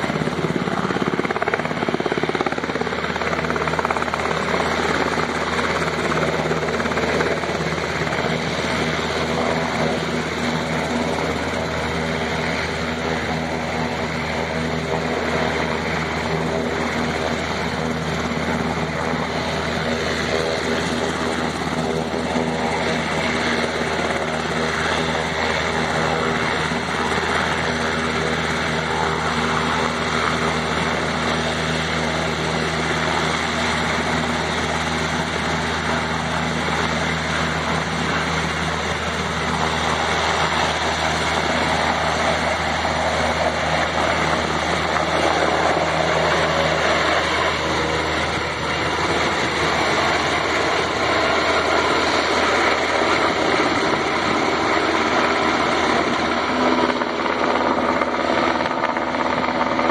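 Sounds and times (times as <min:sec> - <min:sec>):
helicopter rotor and engine hum: 0:00.0 - 0:59.9
rushing downwash: 0:00.0 - 0:59.9.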